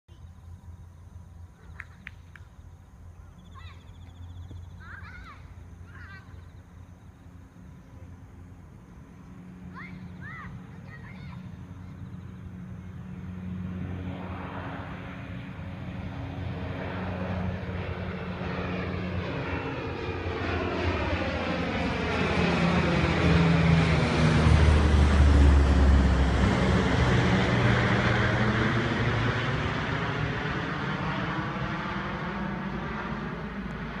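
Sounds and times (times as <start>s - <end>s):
propeller airplane flying past: 0.1s - 34.0s.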